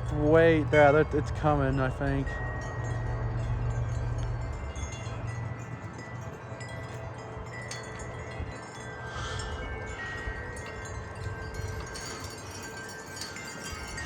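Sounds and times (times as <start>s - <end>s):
metal wind chimes ringing: 0.0s - 14.0s
wind rumble on microphone: 0.0s - 14.0s.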